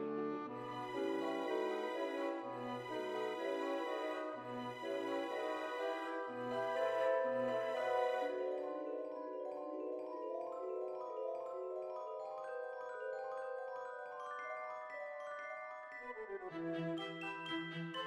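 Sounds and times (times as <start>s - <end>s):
bell-like melody: 0.5s - 18.0s.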